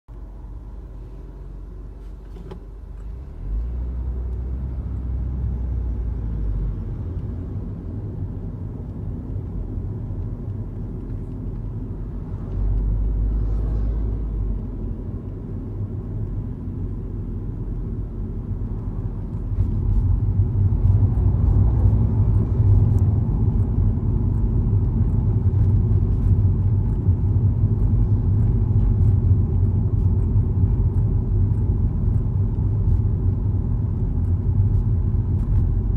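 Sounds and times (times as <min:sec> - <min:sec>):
vehicle unit droning hum: 0:00.1 - 0:35.9.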